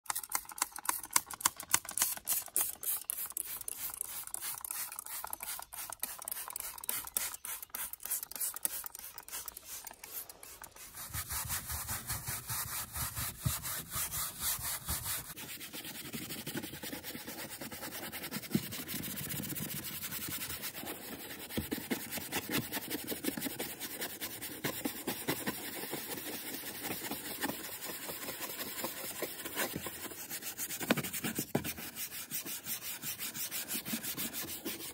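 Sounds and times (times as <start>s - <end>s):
brush scrubbing plastic: 0.1s - 34.9s.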